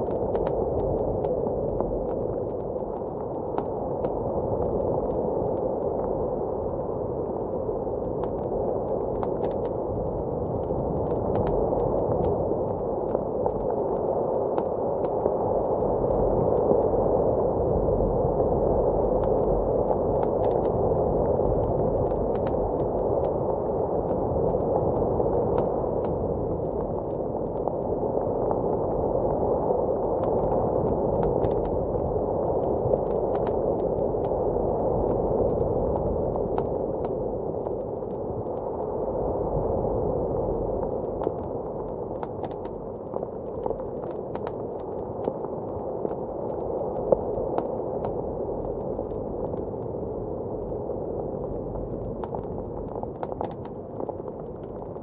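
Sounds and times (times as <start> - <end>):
muffled blizzard wind: 0.0 - 55.0.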